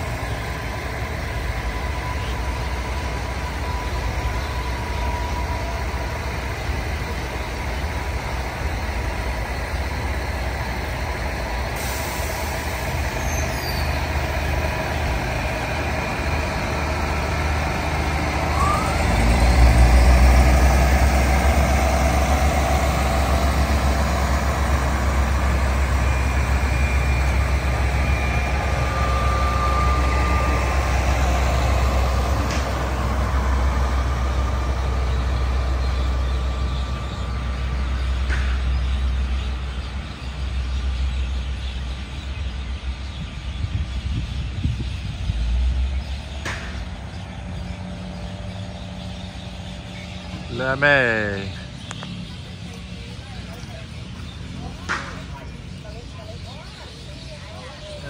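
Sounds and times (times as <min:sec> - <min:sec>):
diesel train engine rumble: 0:00.0 - 0:58.0.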